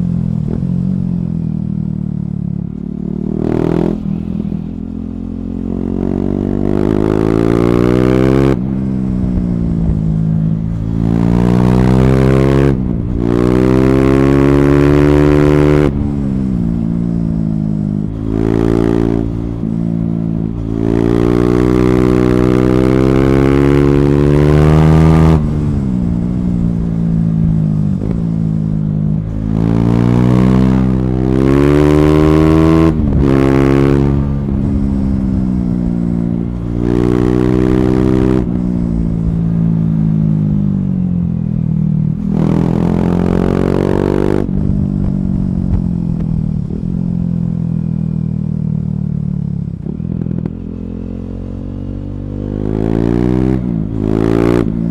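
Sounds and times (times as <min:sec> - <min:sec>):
motorcycle engine revving through gears: 0:00.0 - 0:54.9.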